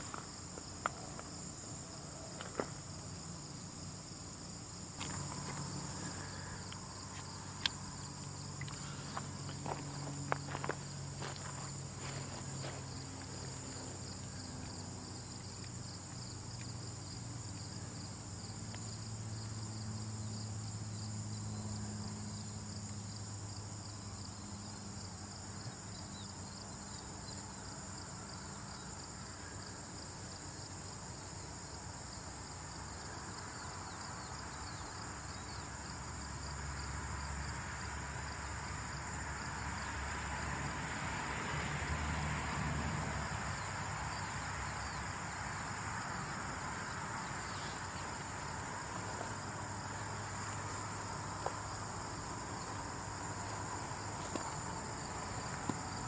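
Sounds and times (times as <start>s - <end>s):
high-pitched insect trill: 0.0s - 56.0s.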